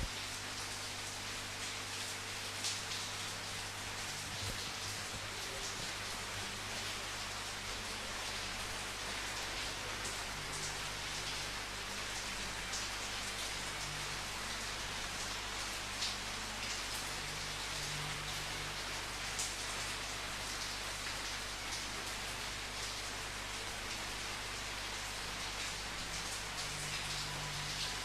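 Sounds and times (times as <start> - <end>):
individual raindrops: 0.0 - 28.0
steady rain falling: 0.0 - 28.0.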